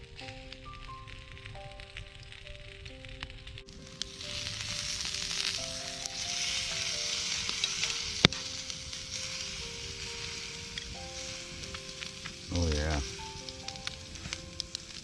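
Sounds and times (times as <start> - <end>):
meat sizzling over campfire: 0.0 - 15.0.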